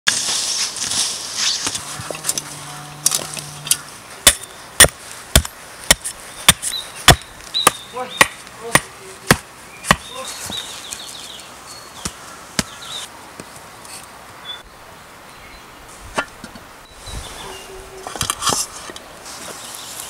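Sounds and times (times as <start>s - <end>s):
digging and scraping in soil: 0.1s - 14.2s, 15.9s - 20.0s.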